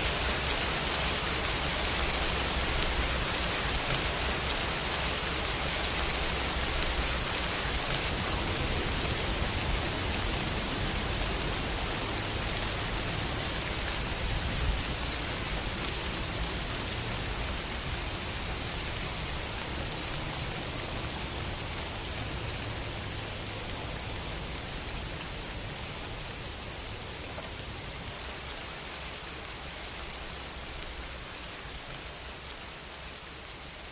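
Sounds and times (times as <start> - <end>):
dense rainfall: 0.0 - 33.9.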